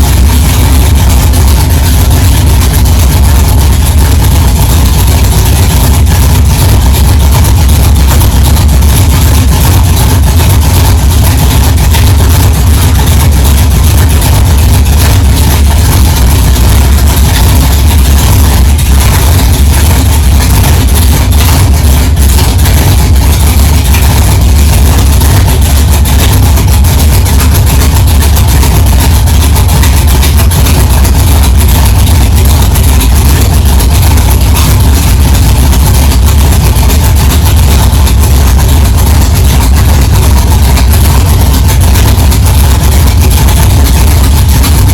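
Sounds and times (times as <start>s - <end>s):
car engine idling with deep rumble: 0.0s - 44.9s.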